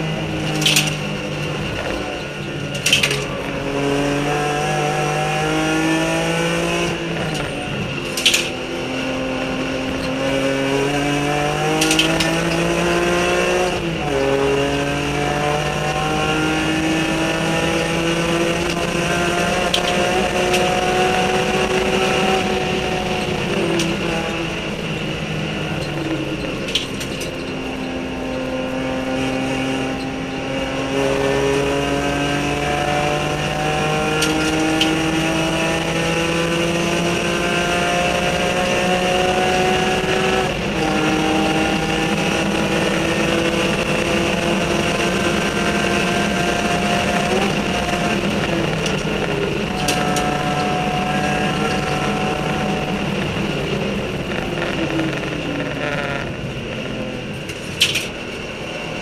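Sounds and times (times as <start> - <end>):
race car engine accelerating: 0.0 - 59.0
wind and road noise: 0.0 - 59.0.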